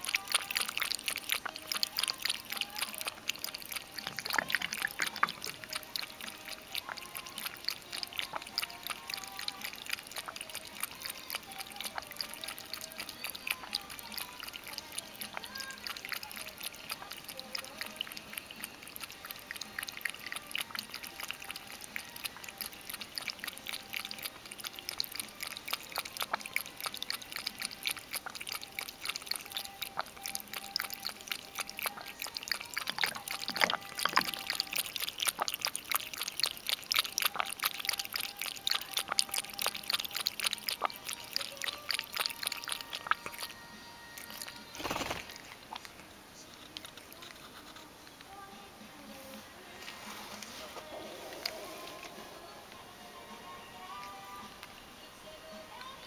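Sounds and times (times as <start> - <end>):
cat lapping water: 0.0 - 56.0.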